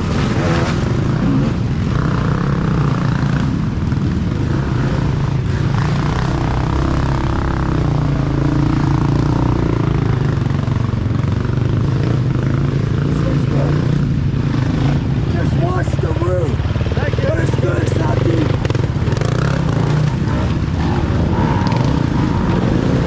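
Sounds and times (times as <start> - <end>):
dirt bike engines running: 0.0 - 23.0.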